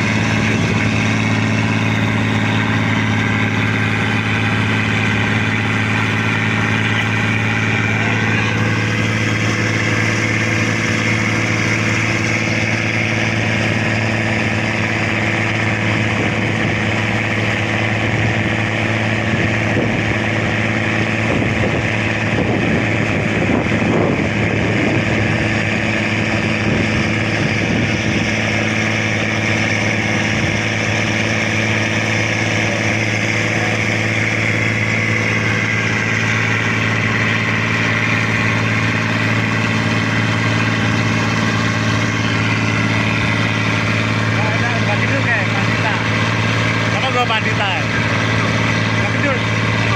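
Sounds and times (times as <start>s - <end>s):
boat engine humming: 0.0s - 49.9s
rough rattling engine: 0.0s - 49.9s.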